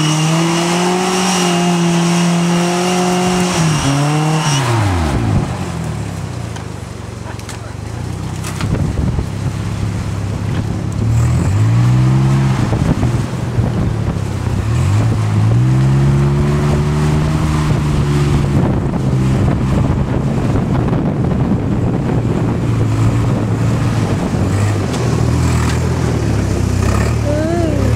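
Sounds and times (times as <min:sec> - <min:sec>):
off-road vehicle engine revving: 0:00.0 - 0:27.9
wind: 0:00.0 - 0:27.9.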